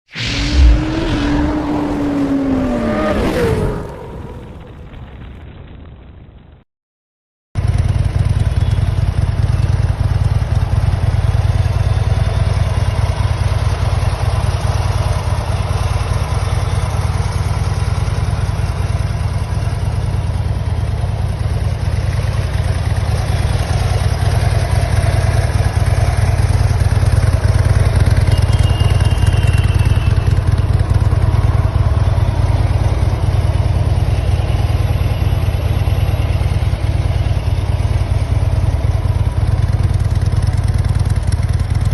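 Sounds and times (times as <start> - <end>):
motorcycle engine idling: 7.6 - 41.9.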